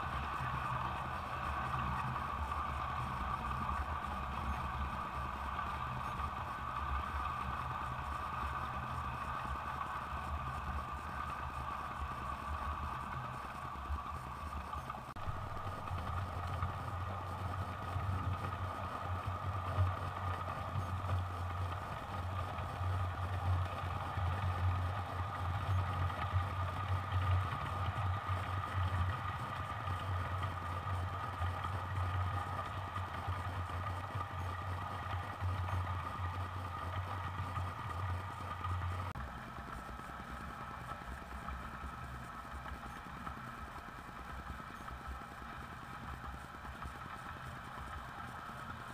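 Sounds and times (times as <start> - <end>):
model train humming: 0.0 - 48.9.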